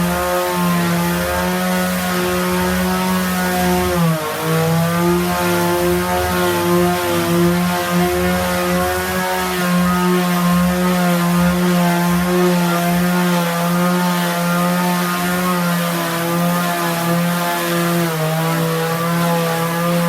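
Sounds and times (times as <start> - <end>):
electric sander whining: 0.0 - 20.0.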